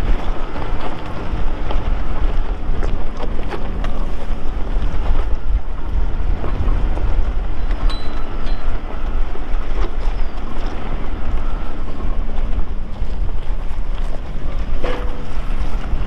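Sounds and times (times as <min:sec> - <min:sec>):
vehicle engine rumble: 0:00.0 - 0:16.0
wind buffeting microphone: 0:00.0 - 0:16.0.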